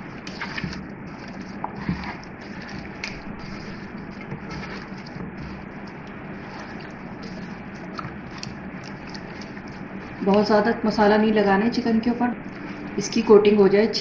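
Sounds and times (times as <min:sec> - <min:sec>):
hand squishing wet marinade: 0:00.0 - 0:11.5
faint steady hum: 0:00.0 - 0:14.0.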